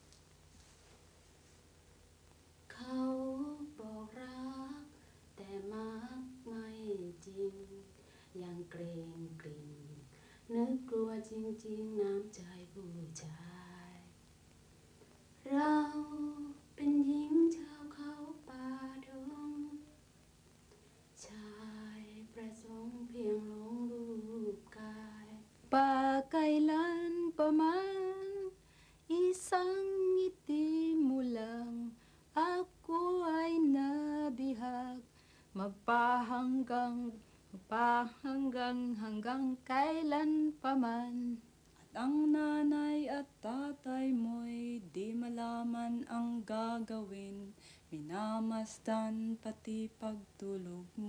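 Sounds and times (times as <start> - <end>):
woman singing unaccompanied: 2.7 - 14.2, 15.4 - 20.0, 21.2 - 51.0.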